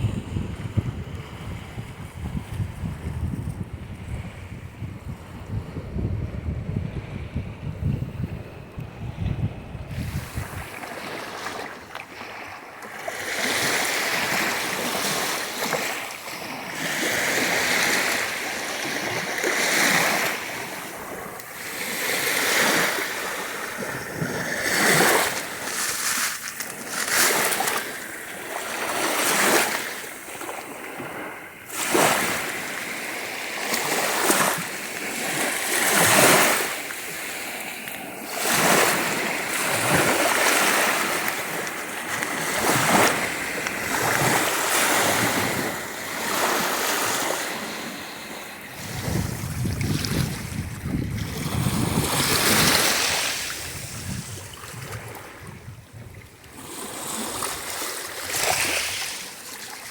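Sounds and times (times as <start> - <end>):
sea waves breaking on shore: 7.0 - 59.9.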